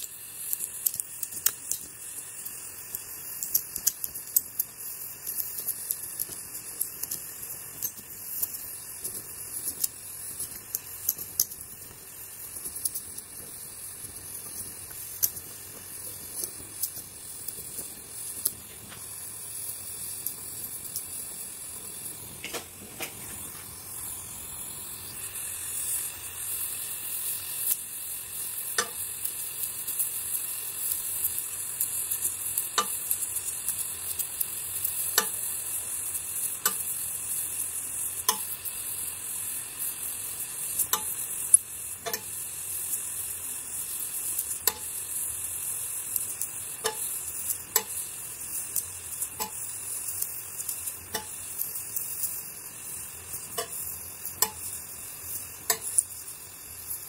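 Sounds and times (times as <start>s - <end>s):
gas torch flame hissing: 0.0s - 57.0s.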